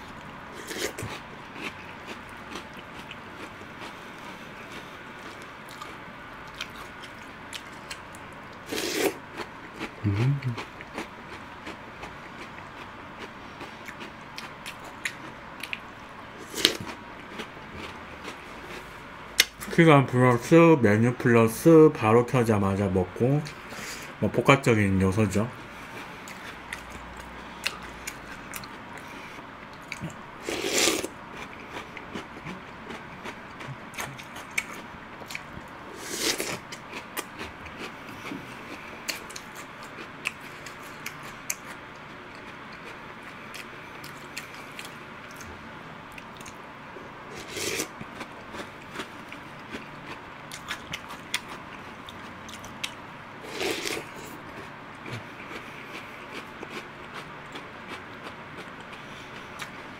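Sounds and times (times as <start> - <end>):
chewing crunchy cereal: 0.1 - 19.5, 25.8 - 45.5, 47.3 - 59.9.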